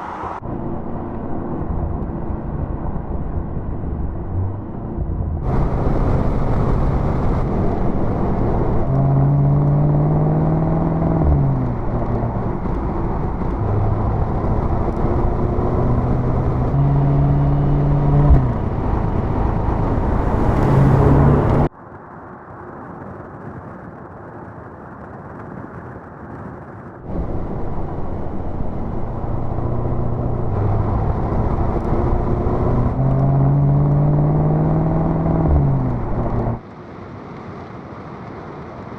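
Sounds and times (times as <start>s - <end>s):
car engine pulling hard: 0.0s - 21.7s, 27.1s - 36.6s
rushing road noise: 0.0s - 21.7s, 27.0s - 38.9s.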